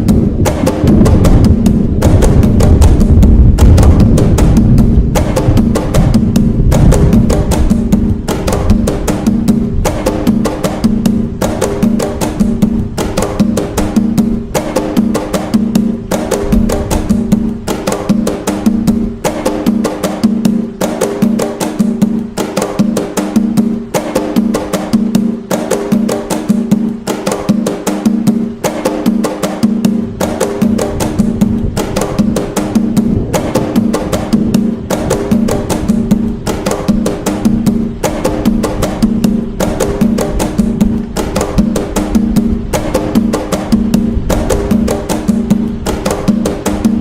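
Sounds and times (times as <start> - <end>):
low drum tone: 0.0 - 20.7, 26.3 - 47.0
hand drums sharp quick strokes: 0.0 - 47.0.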